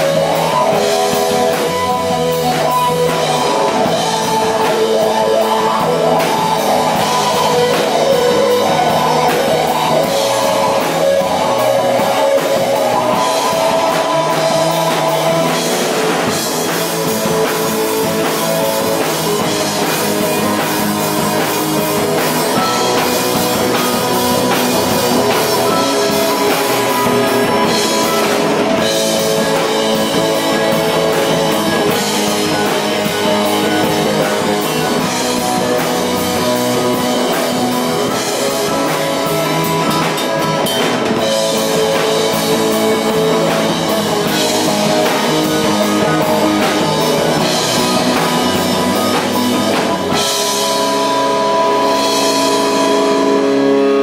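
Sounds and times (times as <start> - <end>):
bass guitar: 0.0 - 54.0
drum kit: 0.0 - 54.0
electric guitar: 0.0 - 54.0
keyboard: 0.0 - 54.0.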